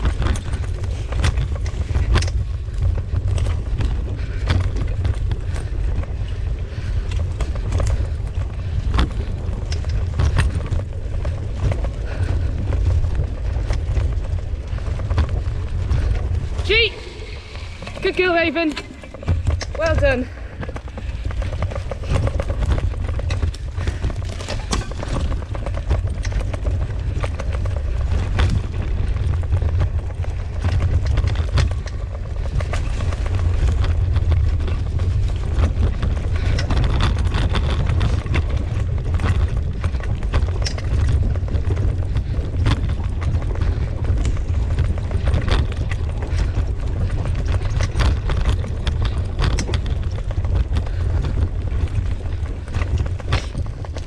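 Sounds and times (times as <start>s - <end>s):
wheeled rig rumbling on dirt: 0.0s - 54.0s
rig knocking and rattling: 7.2s - 54.0s.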